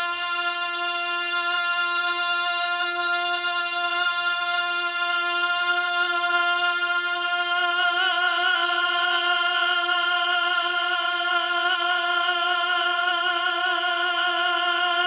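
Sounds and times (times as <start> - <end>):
person singing long high note: 0.0 - 15.0.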